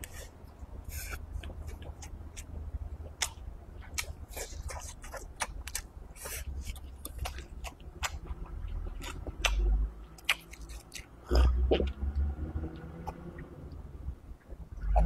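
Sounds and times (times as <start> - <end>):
close chewing with mouth clicks: 0.0 - 13.8.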